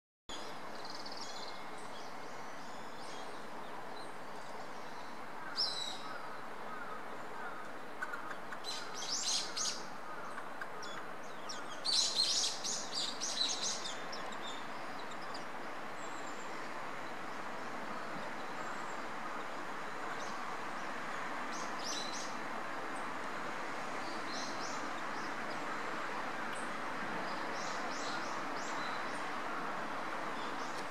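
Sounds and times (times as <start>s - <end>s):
steady outdoor background hiss: 0.3s - 30.9s
wild birds chirping: 0.3s - 30.9s.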